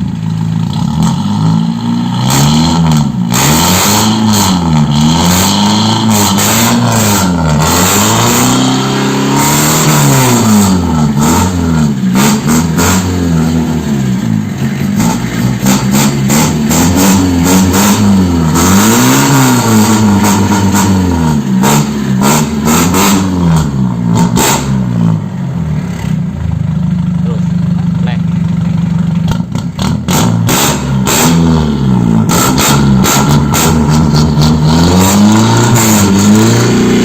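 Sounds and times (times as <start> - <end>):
diesel engine revving: 0.0 - 28.2, 28.8 - 37.0.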